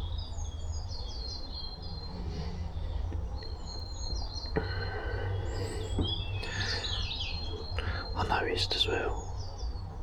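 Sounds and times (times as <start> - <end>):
small songbirds chirping: 0.0 - 10.0.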